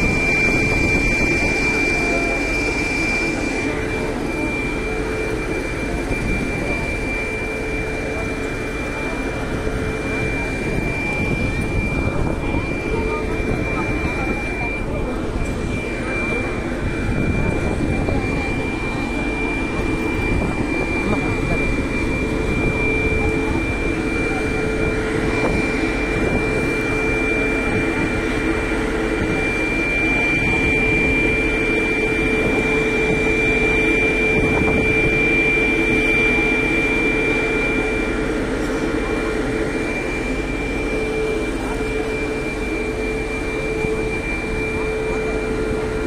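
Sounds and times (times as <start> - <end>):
high steady whine: 0.0 - 46.0
locomotive cooling blowers humming: 0.0 - 46.0.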